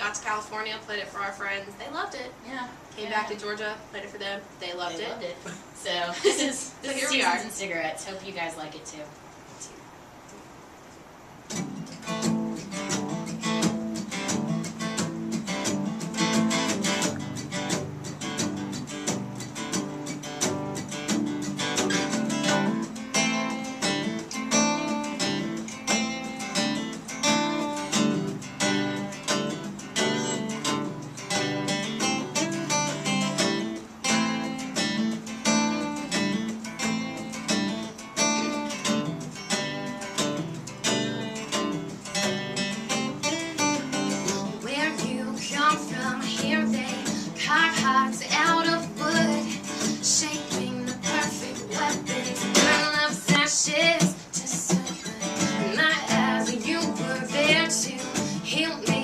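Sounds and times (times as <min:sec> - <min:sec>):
acoustic guitar strumming chords: 0:11.4 - 0:59.0.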